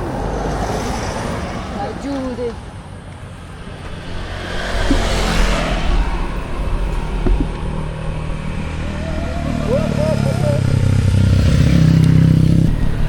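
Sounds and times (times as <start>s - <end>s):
low engine hum: 0.0s - 13.0s
vehicle passing by: 0.0s - 13.0s.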